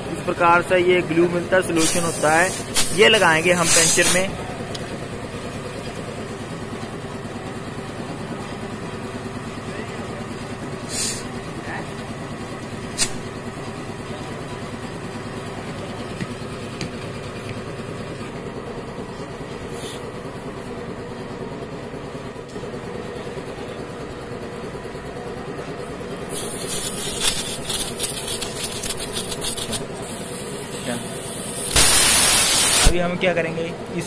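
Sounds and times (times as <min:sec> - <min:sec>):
vehicle engine idling: 0:00.0 - 0:32.1.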